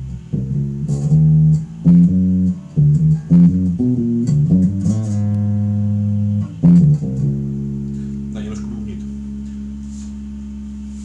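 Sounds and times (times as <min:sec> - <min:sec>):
electric bass plucked notes: 0:00.0 - 0:11.0.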